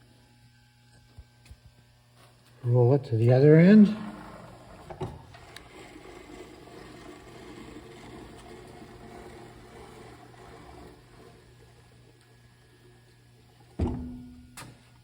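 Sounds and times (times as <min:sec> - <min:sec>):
steady low hum: 0:00.0 - 0:15.0
grinder table rolling: 0:02.7 - 0:15.0.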